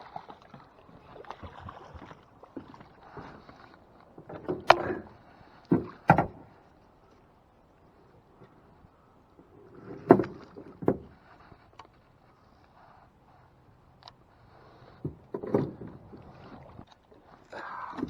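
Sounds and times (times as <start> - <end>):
knocks and clatter in a boat: 0.0 - 18.0.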